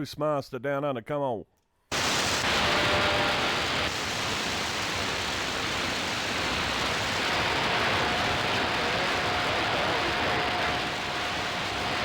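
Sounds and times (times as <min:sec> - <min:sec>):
radio static hiss: 0:01.9 - 0:12.0.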